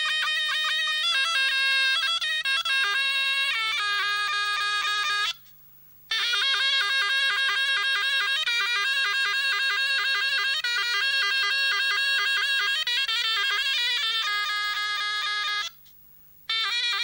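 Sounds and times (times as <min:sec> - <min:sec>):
reedy wind instrument melody: 0:00.0 - 0:05.4, 0:06.1 - 0:15.8, 0:16.5 - 0:17.0.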